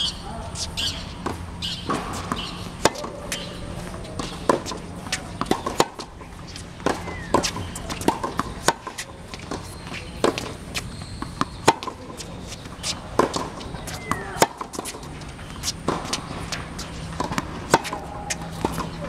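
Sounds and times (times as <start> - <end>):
rackets hitting tennis balls: 0.1 - 19.0
tennis balls bouncing on court: 0.1 - 19.0.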